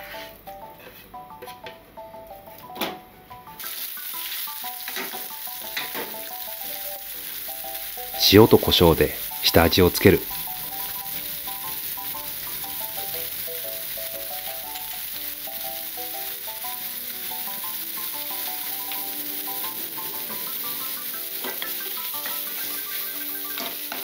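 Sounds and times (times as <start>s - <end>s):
soft background music: 0.0s - 24.0s
chicken and onion sizzling in a pan: 3.6s - 24.0s.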